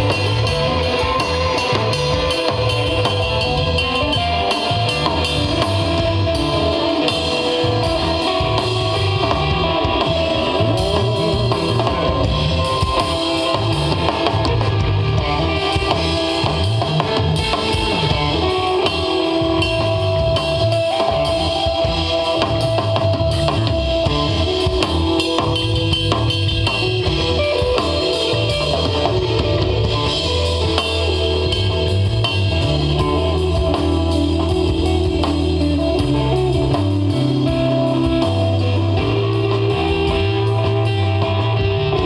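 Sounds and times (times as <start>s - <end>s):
drum kit with cymbals: 0.0s - 42.0s
electric guitar sustained lines: 0.0s - 42.0s
low bass line: 0.0s - 42.0s.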